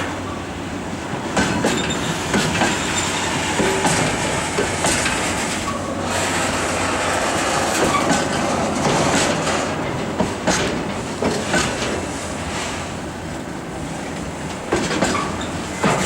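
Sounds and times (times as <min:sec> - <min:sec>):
freight train wheels clattering: 0:00.0 - 0:16.0.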